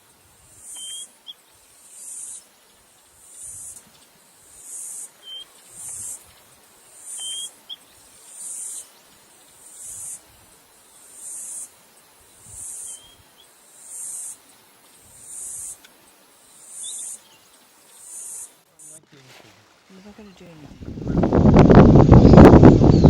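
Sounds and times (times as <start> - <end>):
insects pulsing: 0.0 - 19.1.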